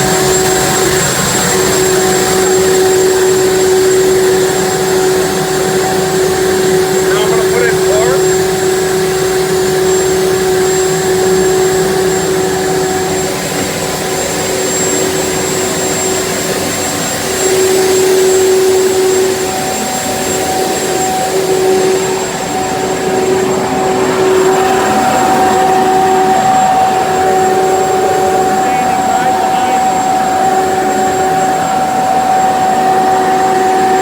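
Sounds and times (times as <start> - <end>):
gas turbine engine whining: 0.0 - 34.0.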